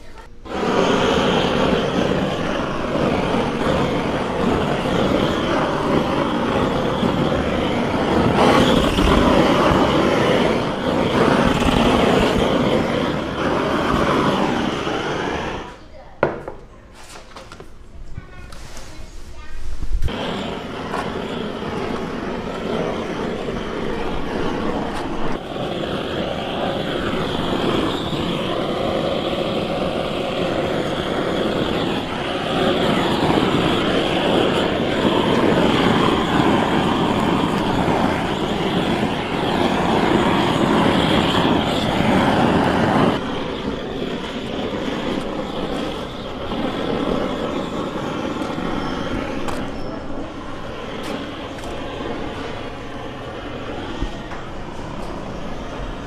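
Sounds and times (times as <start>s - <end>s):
butane torch flame roaring hiss: 0.0s - 17.8s, 18.4s - 56.0s.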